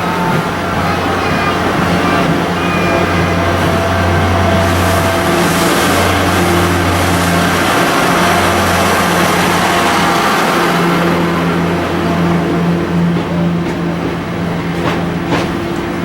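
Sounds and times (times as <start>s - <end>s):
low hum: 0.0s - 15.3s
steam train rushing: 0.0s - 16.0s.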